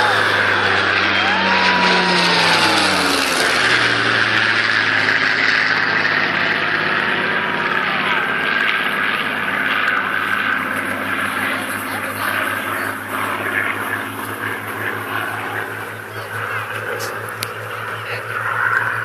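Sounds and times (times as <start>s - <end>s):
propeller aircraft drone: 0.0s - 19.0s.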